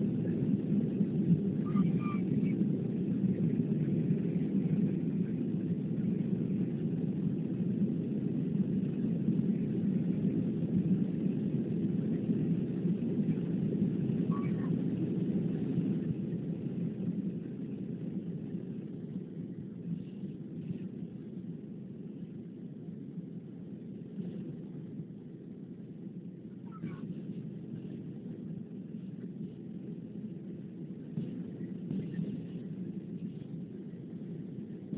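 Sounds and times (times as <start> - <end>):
airplane cabin engine roar: 0.0 - 34.9.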